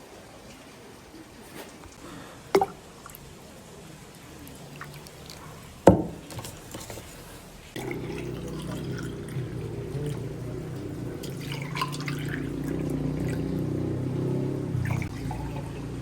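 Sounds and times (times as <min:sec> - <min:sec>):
water pouring into container: 0:02.0 - 0:13.7, 0:14.8 - 0:16.0.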